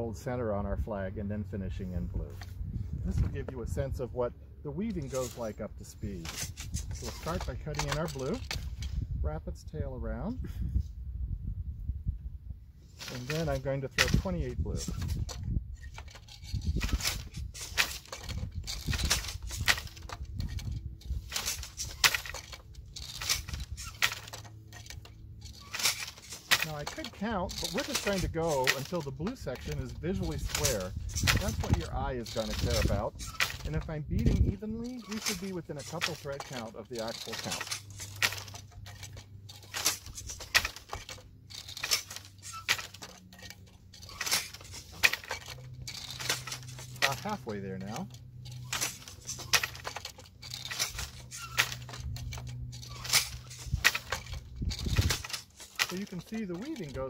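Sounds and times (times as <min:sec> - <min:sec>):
loom wooden knocks and clacks: 0:04.8 - 0:08.9, 0:13.0 - 0:57.0.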